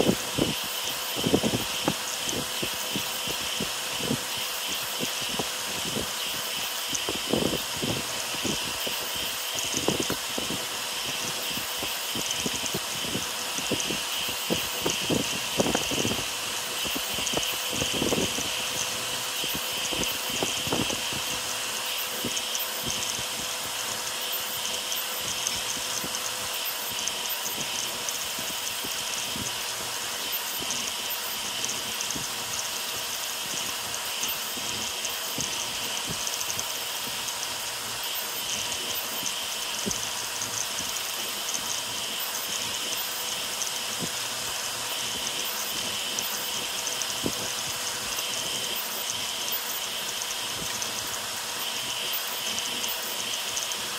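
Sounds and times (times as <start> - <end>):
cooling air hiss: 0.0 - 53.9
stepper motors whining: 0.0 - 53.9.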